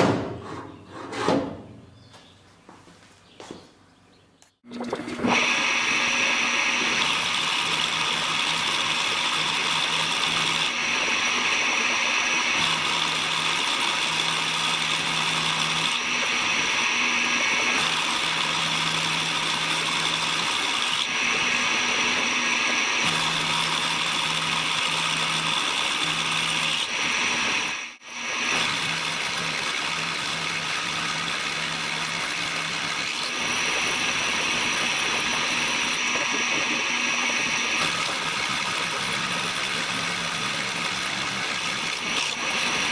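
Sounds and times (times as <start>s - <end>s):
milling machine cutting metal: 4.8s - 42.9s.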